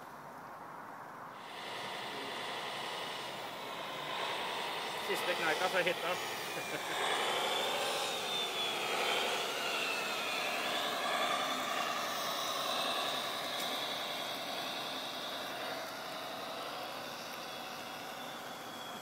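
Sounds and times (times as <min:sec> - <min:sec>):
toy truck electric motors whining: 0:01.4 - 0:19.0.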